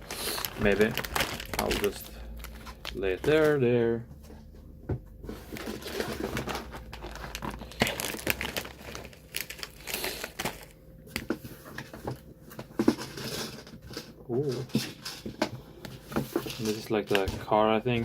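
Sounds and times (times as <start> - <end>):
plastic wrappers crinkling: 0.0 - 3.7, 5.4 - 18.0.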